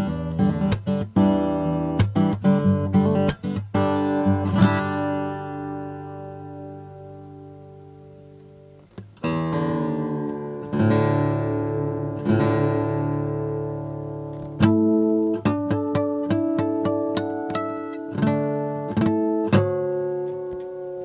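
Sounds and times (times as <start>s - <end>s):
acoustic guitar strummed chords: 0.0s - 21.0s
picked guitar notes: 0.0s - 21.0s.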